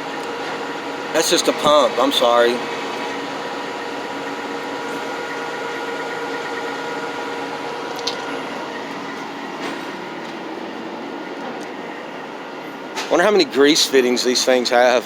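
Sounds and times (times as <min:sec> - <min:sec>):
machine droning with faint whine: 0:00.0 - 0:15.0.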